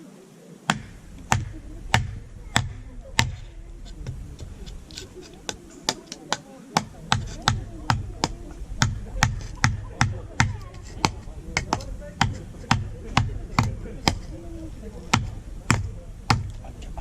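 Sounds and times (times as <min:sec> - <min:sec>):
sharp knocks on wood: 0:00.7 - 0:04.8, 0:05.5 - 0:14.3, 0:15.1 - 0:16.6.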